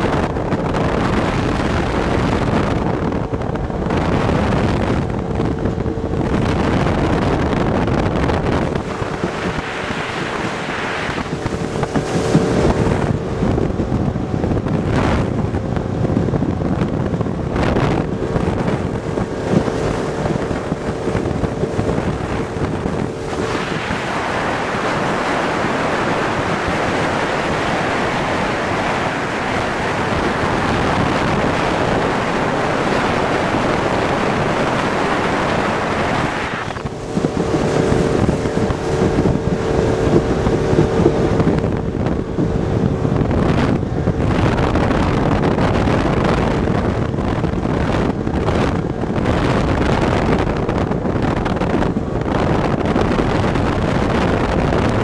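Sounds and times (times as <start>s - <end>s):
boat engine hum: 0.0s - 55.0s
water rushing along hull: 0.0s - 55.0s
wind buffeting microphone: 0.0s - 55.0s.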